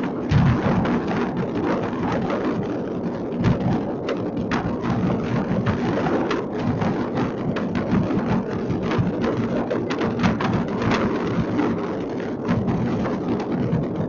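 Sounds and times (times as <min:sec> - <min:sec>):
distant fireworks bangs: 0:00.0 - 0:02.6, 0:03.4 - 0:14.0
fireworks crackling and popping: 0:00.0 - 0:14.0.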